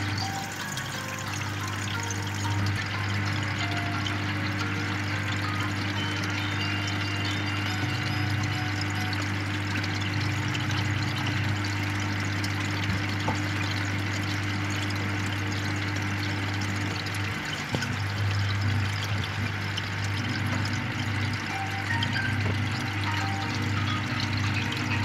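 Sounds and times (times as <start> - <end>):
air pump humming: 0.0 - 25.0
aquarium air stone bubbling: 0.0 - 25.0.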